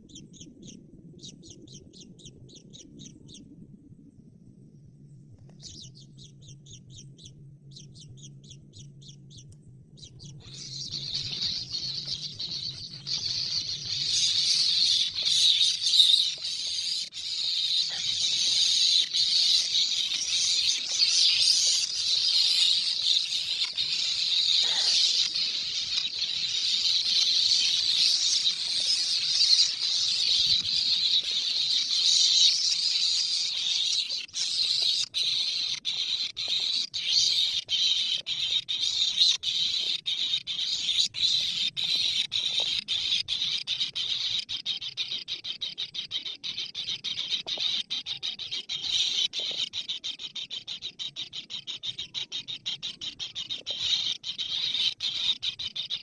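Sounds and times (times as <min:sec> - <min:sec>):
bird chirping in rapid trills: 0:05.5 - 0:56.0.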